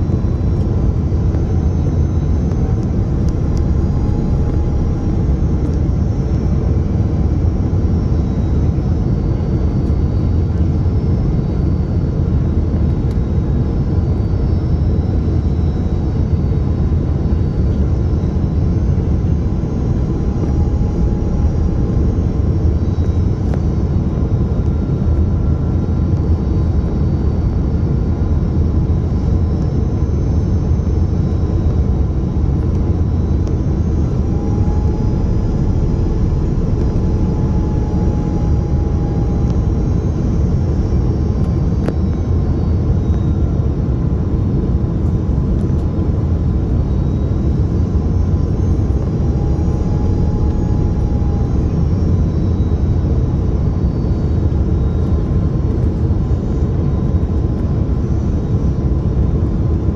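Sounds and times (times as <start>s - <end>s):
faint high whines: 0.0s - 59.9s
low aircraft cabin rumble: 0.0s - 59.9s.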